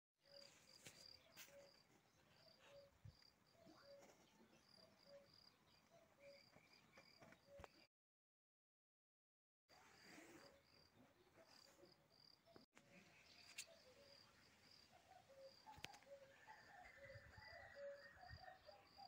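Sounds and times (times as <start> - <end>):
faint repeated chirping: 0.2 - 7.9, 9.8 - 19.0.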